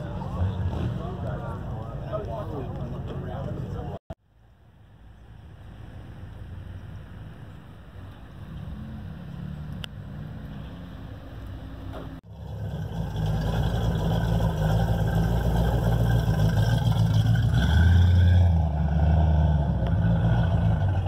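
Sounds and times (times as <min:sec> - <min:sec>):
loud low car engines passing: 0:00.0 - 0:04.0, 0:05.3 - 0:21.0.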